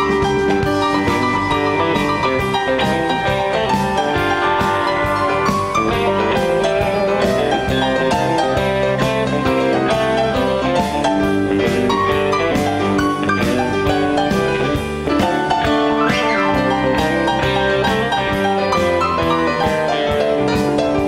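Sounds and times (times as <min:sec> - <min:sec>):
bass guitar: 0:00.0 - 0:21.0
drum kit: 0:00.0 - 0:21.0
electric guitar: 0:00.0 - 0:21.0
keyboards: 0:00.0 - 0:21.0.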